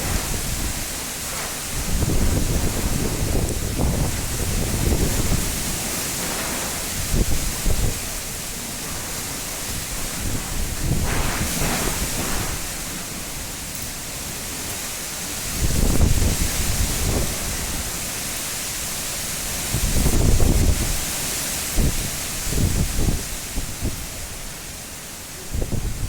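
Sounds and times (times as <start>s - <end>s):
heavy rain hissing: 0.0s - 26.0s
low rumbling gusts: 0.0s - 26.0s.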